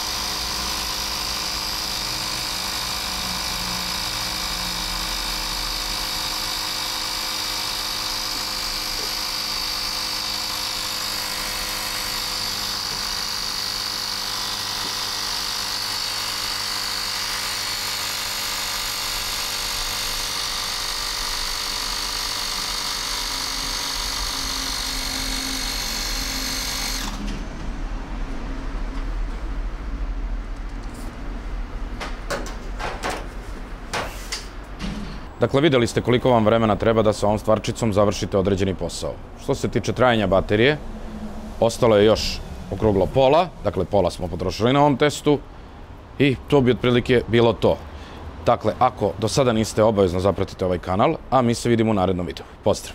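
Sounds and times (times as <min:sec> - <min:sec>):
mini compressor whining: 0:00.0 - 0:29.9, 0:34.7 - 0:49.8.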